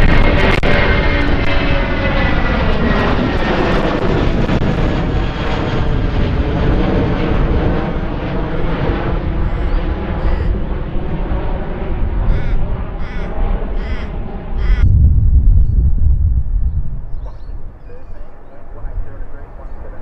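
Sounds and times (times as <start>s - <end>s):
jet engines roaring past: 0.0s - 20.0s.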